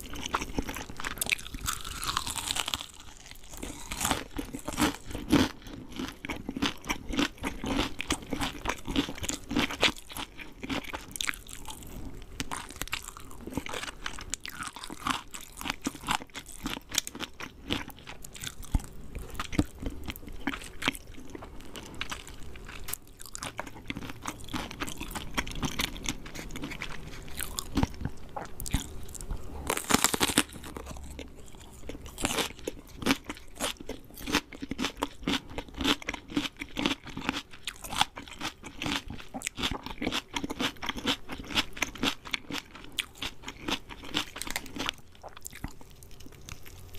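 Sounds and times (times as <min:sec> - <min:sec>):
crunching fried chicken: 0:00.0 - 0:46.9.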